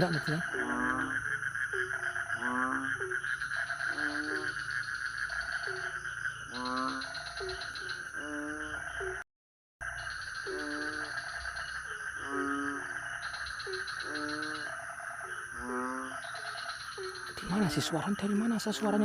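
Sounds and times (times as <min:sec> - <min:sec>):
frogs croaking: 0:00.0 - 0:09.2, 0:09.8 - 0:19.0
high insect drone: 0:00.0 - 0:09.2, 0:09.8 - 0:19.0.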